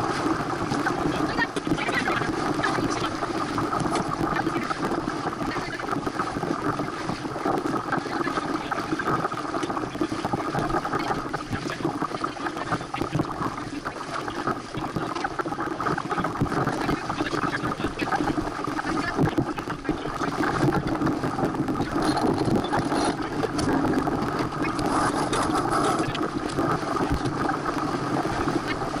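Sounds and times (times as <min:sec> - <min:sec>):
water rushing along boat hull: 0:00.0 - 0:29.0
wind noise: 0:00.0 - 0:29.0.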